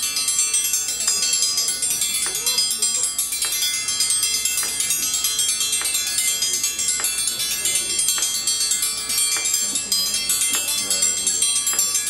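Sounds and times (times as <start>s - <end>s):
bright tinkling music with beat: 0.0s - 12.0s.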